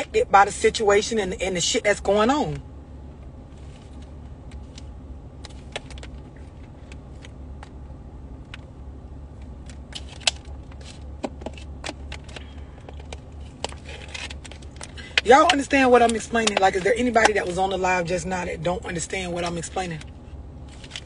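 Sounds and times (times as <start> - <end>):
car cabin hum: 0.0 - 21.0.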